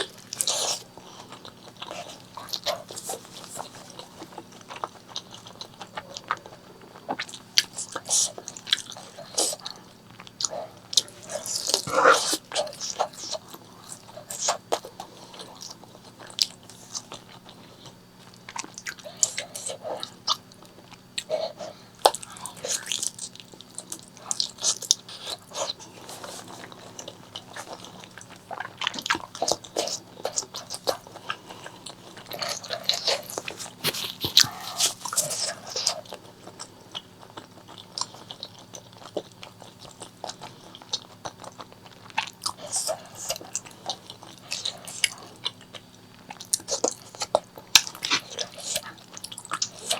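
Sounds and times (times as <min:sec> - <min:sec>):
chewing and crunchy bites: 0:00.0 - 0:49.9.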